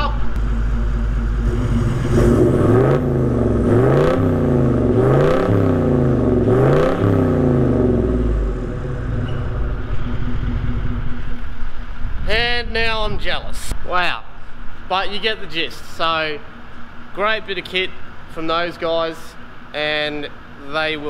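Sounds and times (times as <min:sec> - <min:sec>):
diesel engine idling and revving: 0:00.0 - 0:21.0.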